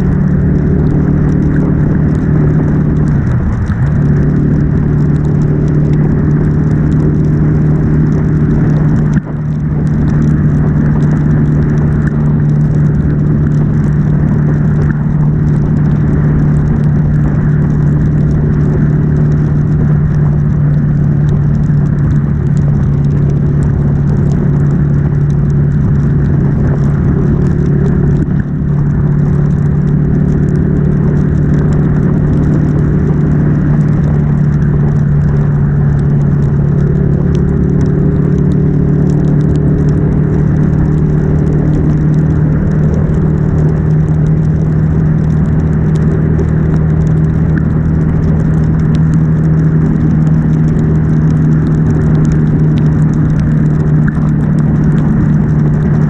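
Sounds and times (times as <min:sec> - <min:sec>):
motorcycle engine cruising: 0:00.0 - 0:56.0
wet road spray: 0:00.0 - 0:56.0.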